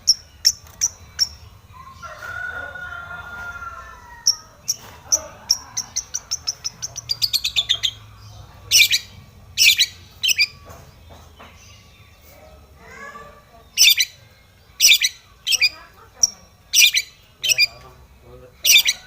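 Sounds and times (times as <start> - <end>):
loud harsh bird calls: 0.0 - 19.0.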